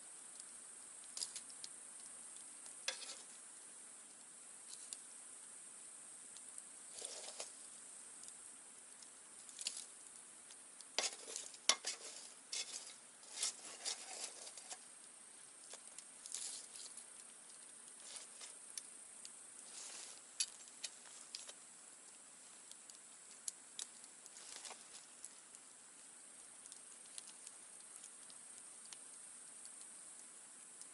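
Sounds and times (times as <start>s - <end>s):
campfire crackling and popping: 0.0s - 30.9s
steady high hiss: 0.0s - 30.9s.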